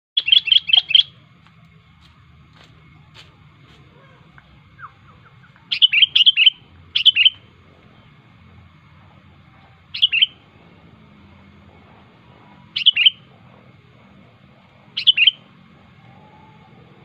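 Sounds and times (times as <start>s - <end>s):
bird chirping: 0.2s - 1.9s, 3.9s - 17.0s.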